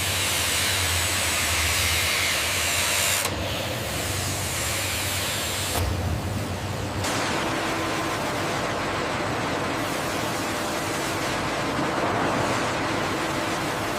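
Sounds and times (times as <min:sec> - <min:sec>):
factory machinery hum and hiss: 0:00.0 - 0:13.9.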